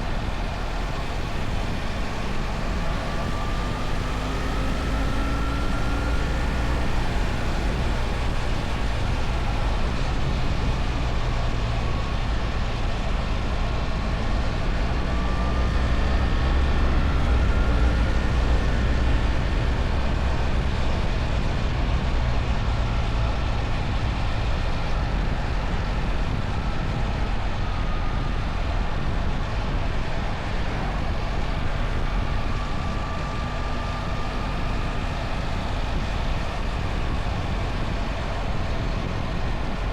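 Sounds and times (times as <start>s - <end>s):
faint whine: 0.0s - 39.9s
wind and road noise: 0.0s - 39.9s.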